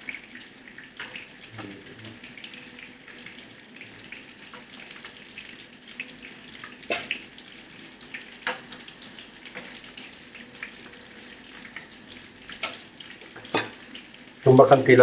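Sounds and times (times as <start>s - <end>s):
patties sizzling in oil: 0.0s - 15.0s.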